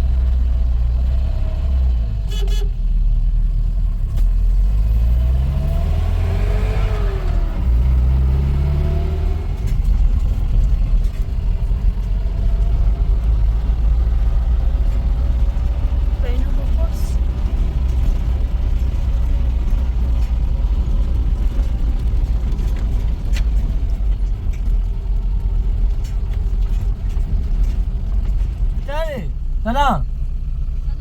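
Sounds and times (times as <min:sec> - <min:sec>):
vehicle engine accelerating: 0:00.0 - 0:31.0.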